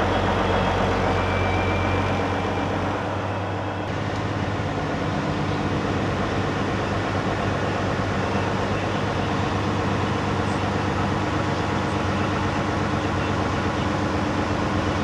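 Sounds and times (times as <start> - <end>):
ferry engine hum: 0.0 - 15.0.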